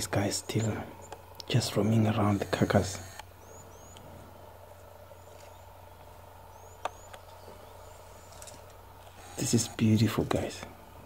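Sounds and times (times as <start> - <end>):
faint background hiss: 0.0 - 11.0
low steady hum: 0.0 - 11.0.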